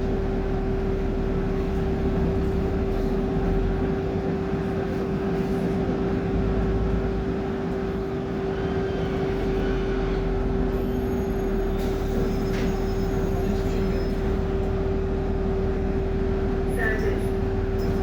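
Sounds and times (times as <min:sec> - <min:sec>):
bus engine running: 0:00.0 - 0:18.0.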